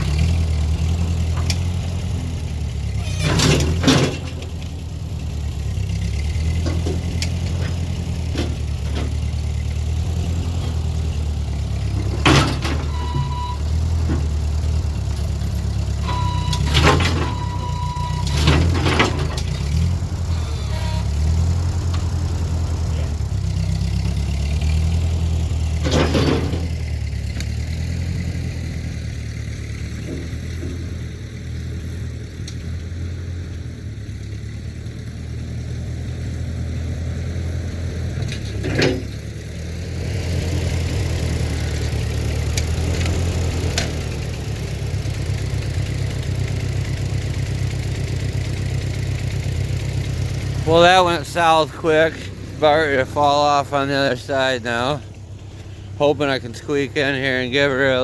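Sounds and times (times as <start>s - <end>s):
engine rumbling: 0.0s - 58.0s.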